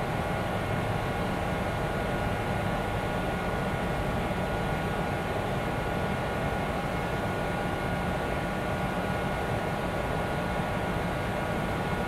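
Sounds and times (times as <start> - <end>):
train equipment hum and hiss: 0.0 - 12.0.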